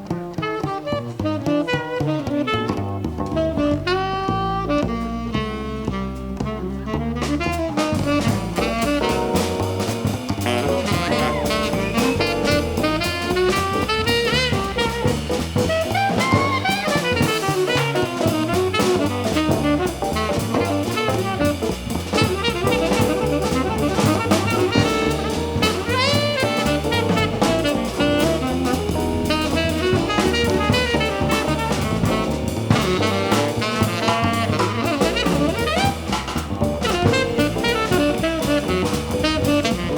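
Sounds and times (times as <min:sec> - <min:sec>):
drum kit and cymbals: 0:00.0 - 0:39.9
jazz combo playing: 0:00.0 - 0:39.9.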